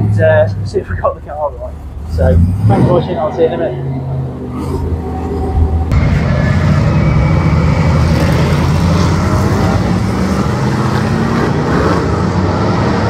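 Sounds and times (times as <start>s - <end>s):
stock car engine running: 0.0s - 13.0s.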